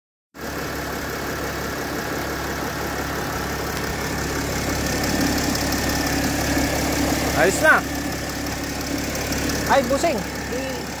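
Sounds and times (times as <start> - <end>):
car engine idling: 0.4 - 11.0.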